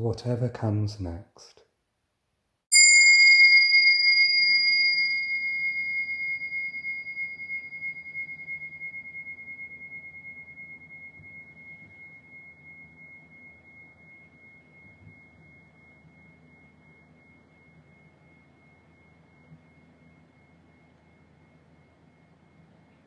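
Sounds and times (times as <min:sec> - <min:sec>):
bell ringing with high tone: 0:02.7 - 0:23.0.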